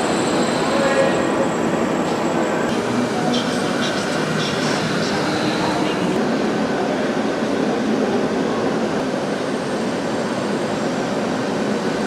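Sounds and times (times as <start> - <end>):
steam train rushing noise: 0.0 - 12.0.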